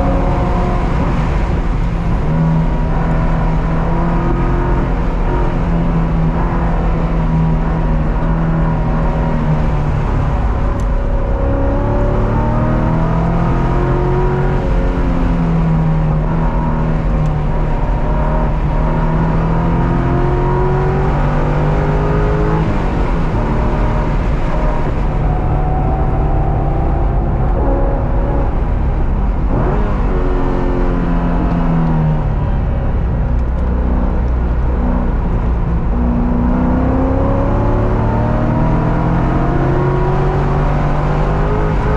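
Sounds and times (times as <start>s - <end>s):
car engine accelerating and shifting: 0.0s - 41.9s
road and wind noise: 0.0s - 41.9s.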